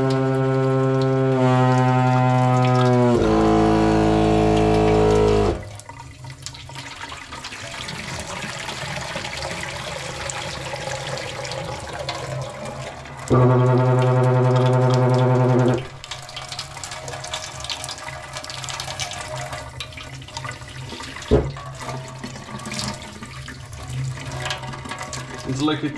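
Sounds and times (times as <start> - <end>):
water pipes droning: 0.0 - 25.9.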